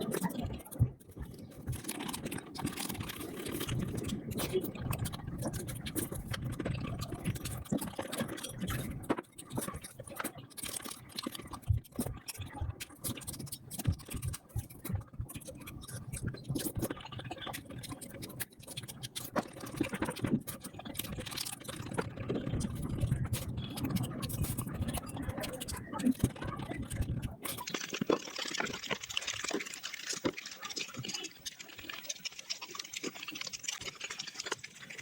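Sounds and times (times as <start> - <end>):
sped-up chewing and crunching: 0.0 - 35.0.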